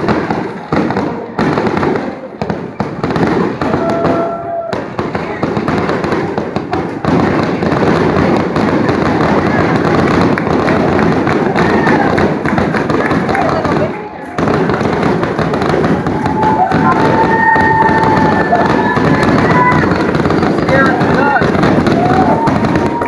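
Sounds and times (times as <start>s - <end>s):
fireworks shells bursting: 0.0s - 23.0s.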